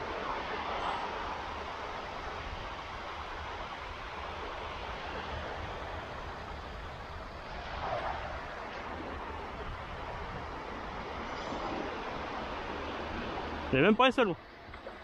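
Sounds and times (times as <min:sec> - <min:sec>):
waves washing on beach: 0:00.0 - 0:15.0.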